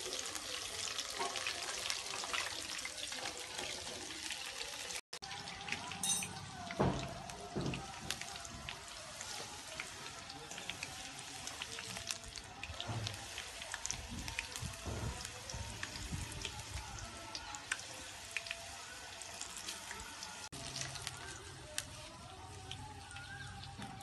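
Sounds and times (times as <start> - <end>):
okra sizzling in hot oil: 0.0 - 24.0.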